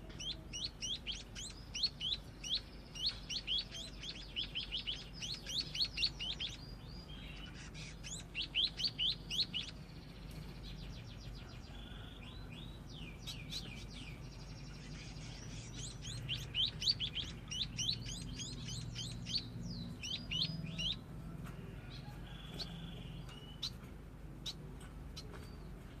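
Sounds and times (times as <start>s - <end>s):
munia chirping song: 0.0s - 26.0s.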